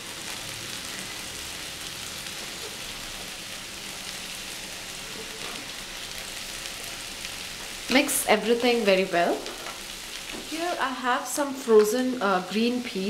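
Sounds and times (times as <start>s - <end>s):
stir fry sizzling in a frying pan: 0.0s - 13.0s.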